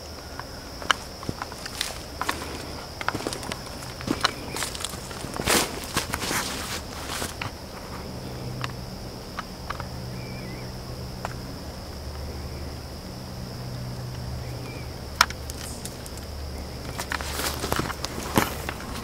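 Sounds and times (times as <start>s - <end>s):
insects trilling: 0.0s - 19.0s
low steady hum: 0.0s - 19.0s.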